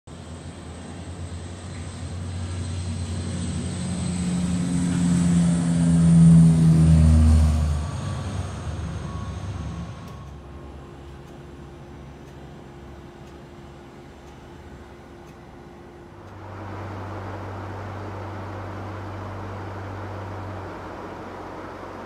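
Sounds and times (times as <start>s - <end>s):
turboprop engines droning: 0.1s - 22.0s.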